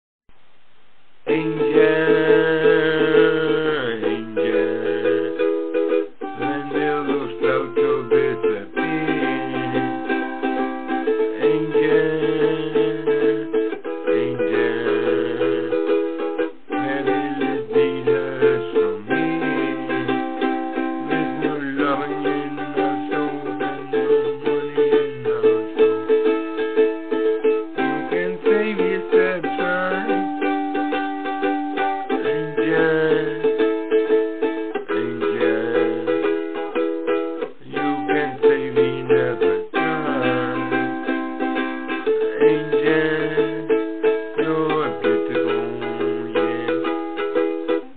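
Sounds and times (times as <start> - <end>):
plucked string instrumental music: 1.3 - 47.9.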